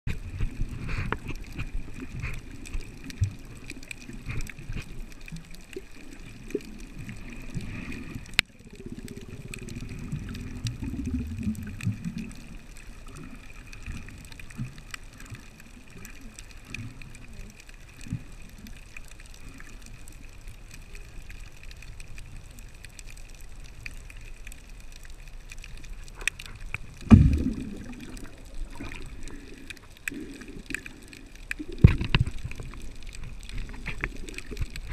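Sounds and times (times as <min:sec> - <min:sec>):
low rush of water: 0:00.1 - 0:34.9
small underwater clicks: 0:00.1 - 0:34.9
underwater rumble of water: 0:00.1 - 0:34.9.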